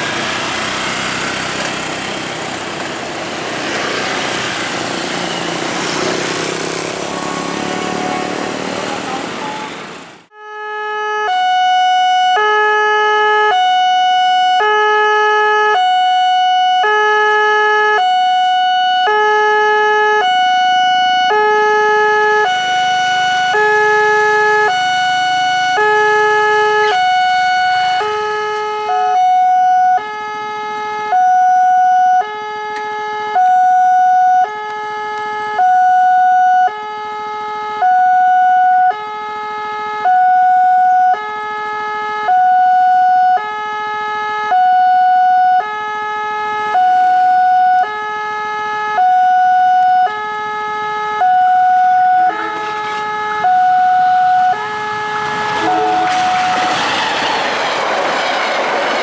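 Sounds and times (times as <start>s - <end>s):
two-tone crossing alarm: 6.9s - 8.6s, 10.3s - 57.7s.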